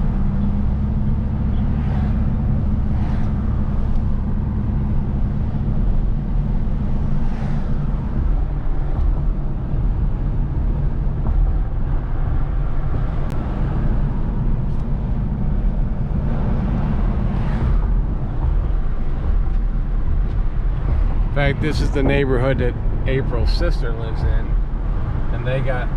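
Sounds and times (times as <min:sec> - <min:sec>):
vehicle road and engine rumble: 0:00.0 - 0:25.9.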